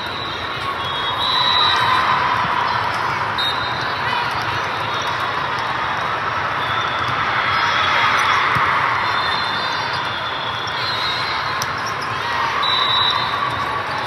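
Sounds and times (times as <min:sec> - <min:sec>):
hubbub of many voices: 0:00.0 - 0:14.0.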